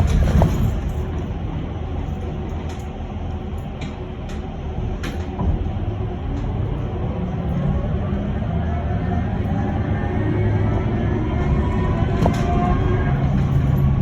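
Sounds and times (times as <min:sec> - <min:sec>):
bus low rumble: 0:00.0 - 0:14.0.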